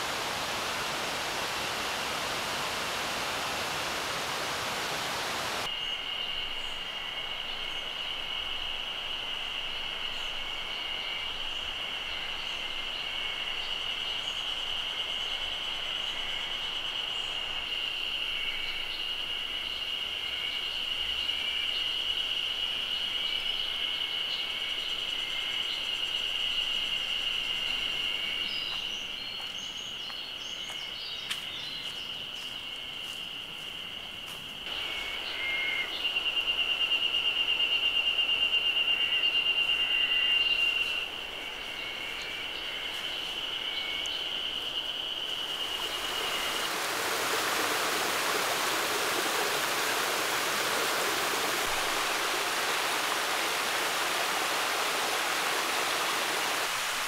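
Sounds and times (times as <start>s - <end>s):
cicadas droning: 0.0s - 57.0s.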